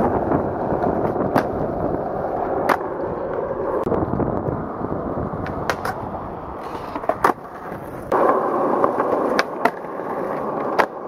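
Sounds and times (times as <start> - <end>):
skateboard clacks: 0.0 - 4.7, 5.3 - 11.0
skateboard wheels rolling: 0.0 - 11.0.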